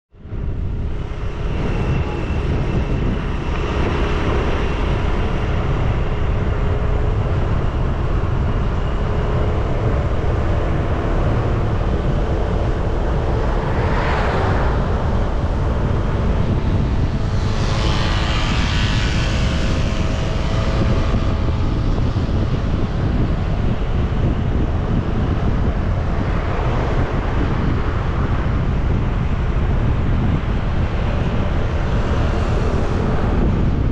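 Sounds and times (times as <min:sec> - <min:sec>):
motorcycle engine and road noise: 0:00.1 - 0:33.9.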